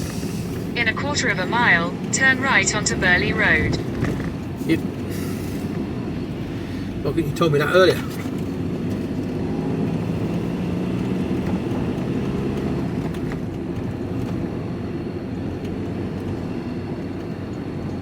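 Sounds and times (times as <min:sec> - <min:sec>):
road noise: 0:00.0 - 0:18.0
van engine noise: 0:00.0 - 0:18.0.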